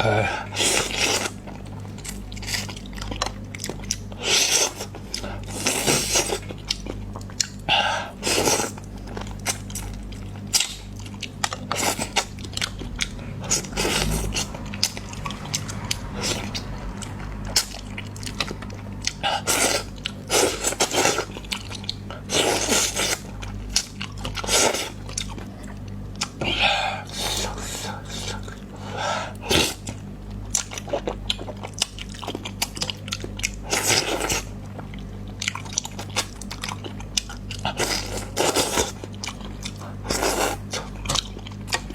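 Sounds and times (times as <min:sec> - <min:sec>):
person chewing and crunching: 0:00.0 - 0:41.9.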